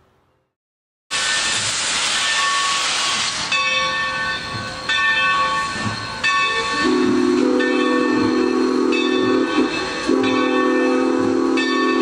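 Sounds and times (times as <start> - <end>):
locomotive steam hissing: 1.1 - 12.0
locomotive bell ringing: 2.2 - 12.0.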